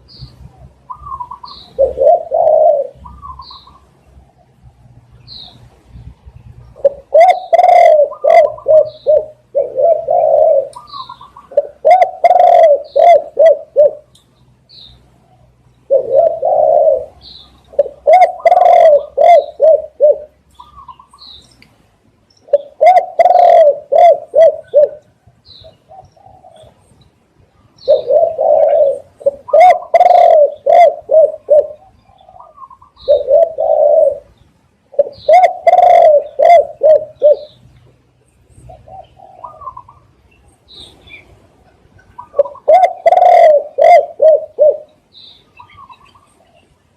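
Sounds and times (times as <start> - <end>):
small birds chirping: 0.0 - 46.9
dove cooing: 0.4 - 4.5, 6.7 - 14.1, 15.0 - 21.2, 22.5 - 26.9, 27.8 - 37.6, 38.6 - 41.2, 42.0 - 45.0.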